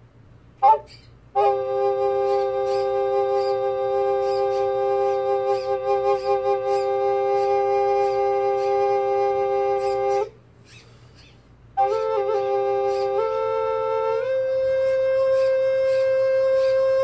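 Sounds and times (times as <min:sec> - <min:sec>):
two recorders sustained notes: 0:00.6 - 0:17.0.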